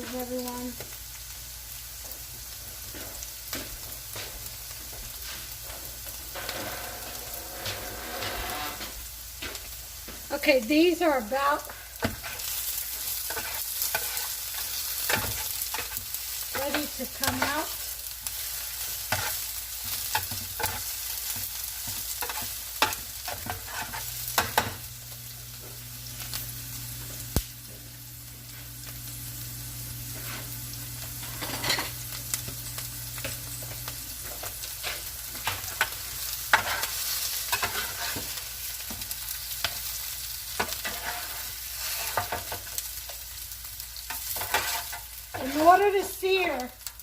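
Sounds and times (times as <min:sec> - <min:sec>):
food sizzling in a frying pan: 0:00.0 - 0:47.0.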